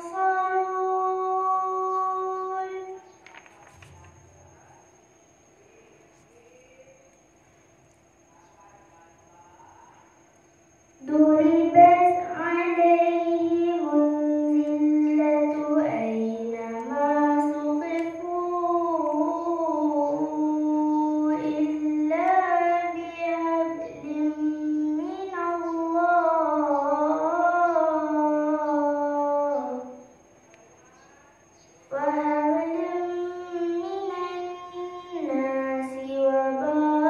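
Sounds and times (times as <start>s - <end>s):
girl chanting a recitation: 0.0s - 37.0s.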